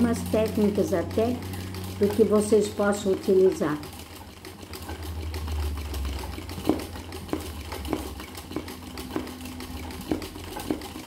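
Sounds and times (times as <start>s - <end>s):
sewing machine motor hum: 0.0s - 11.0s
sewing machine needle clicking: 0.0s - 11.0s.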